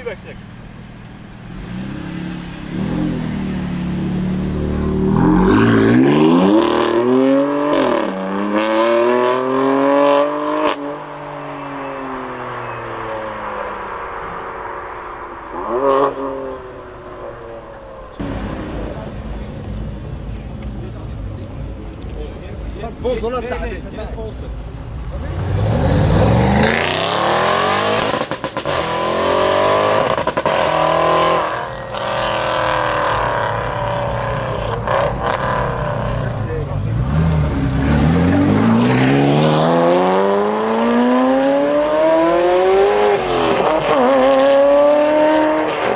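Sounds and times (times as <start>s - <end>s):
car engine accelerating hard: 0.0s - 45.9s.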